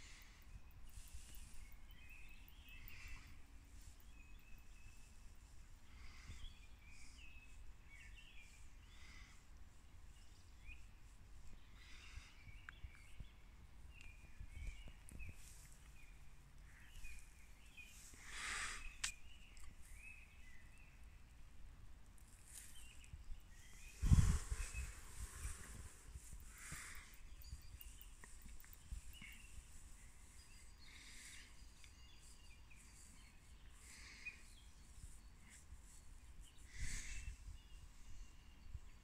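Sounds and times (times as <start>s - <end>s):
distant birdsong: 0.0s - 39.0s.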